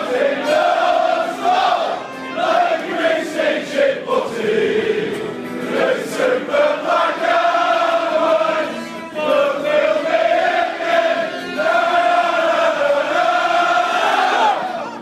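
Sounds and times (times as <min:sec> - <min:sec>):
crowd singing a chant: 0:00.0 - 0:14.8.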